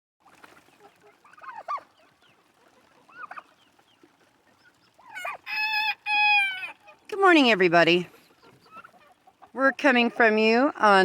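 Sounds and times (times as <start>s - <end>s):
long steady poultry call: 0.2s - 11.0s
poultry squawking: 0.3s - 11.0s.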